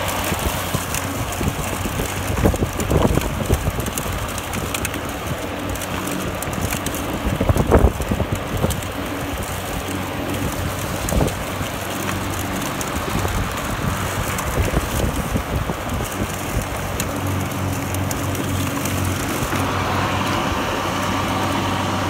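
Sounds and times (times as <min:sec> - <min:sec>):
lawn mower mulching grass: 0:00.0 - 0:22.0.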